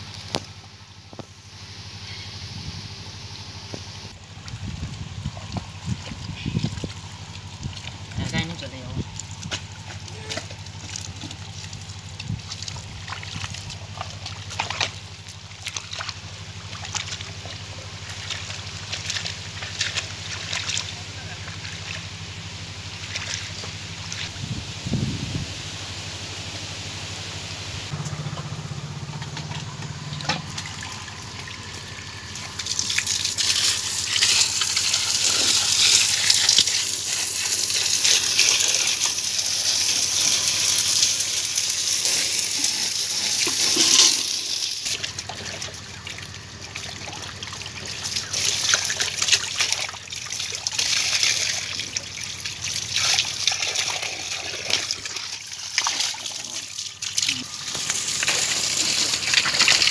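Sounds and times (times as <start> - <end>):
water poured and splashed: 4.1 - 24.6, 29.2 - 59.9.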